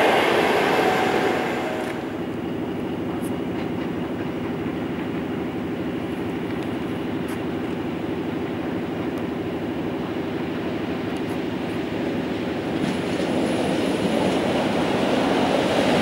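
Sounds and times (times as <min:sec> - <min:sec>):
electric train drone: 0:00.0 - 0:16.0.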